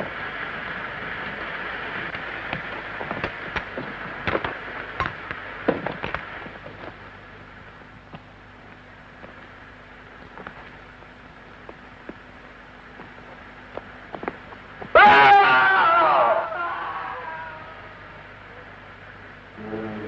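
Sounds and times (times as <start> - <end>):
sharp crackles and pops: 0.0 - 19.6
steady hiss: 0.0 - 20.0.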